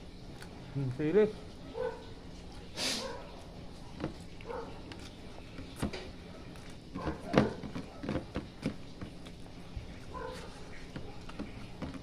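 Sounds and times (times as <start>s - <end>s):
chewing and smacking: 0.1s - 12.0s.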